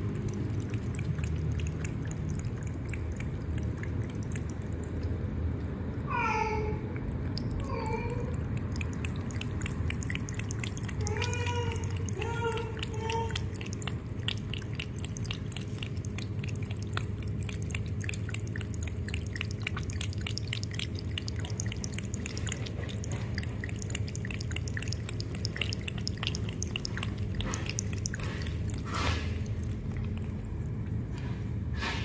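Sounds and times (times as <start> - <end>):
fountain low hum: 0.0 - 5.7, 8.3 - 30.9
cat lapping water: 0.0 - 6.1, 6.8 - 32.0.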